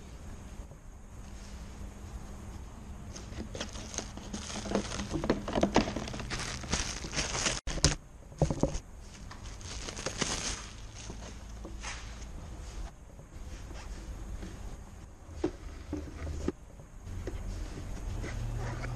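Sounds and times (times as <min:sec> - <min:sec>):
rustling and crinkling: 0:00.7 - 0:18.9.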